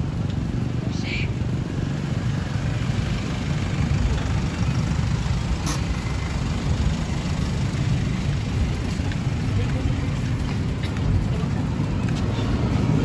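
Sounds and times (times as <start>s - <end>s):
suv engine idling: 0.0s - 12.4s
street traffic: 0.0s - 13.0s.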